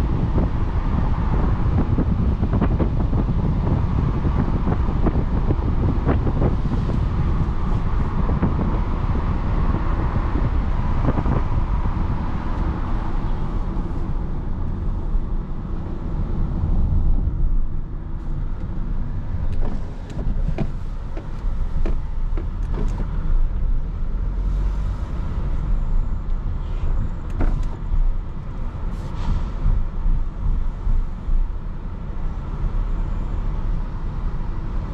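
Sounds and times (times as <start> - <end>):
car engine and road noise: 0.0 - 34.9
wind and tyre hiss: 0.0 - 34.9.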